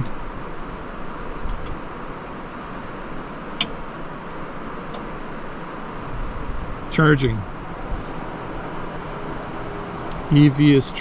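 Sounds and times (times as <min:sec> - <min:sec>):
charger cooling fans whirring: 0:00.0 - 0:11.0.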